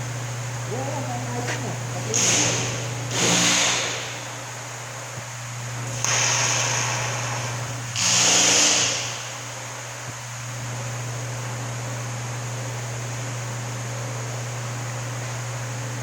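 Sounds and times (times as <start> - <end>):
welding equipment humming: 0.0 - 16.0.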